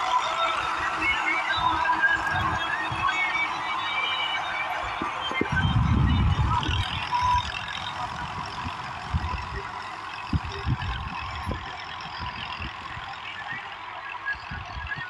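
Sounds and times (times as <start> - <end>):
tractor running under load: 0.0 - 15.0.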